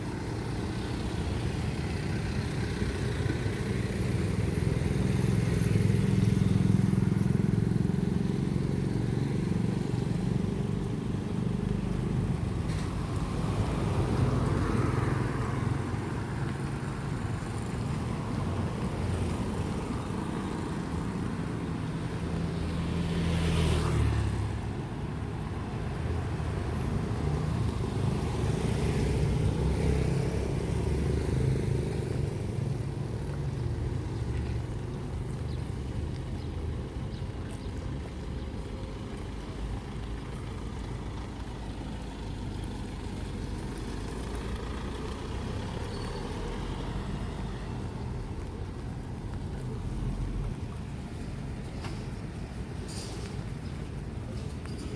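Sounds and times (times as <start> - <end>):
vehicles driving past: 0.0 - 54.9.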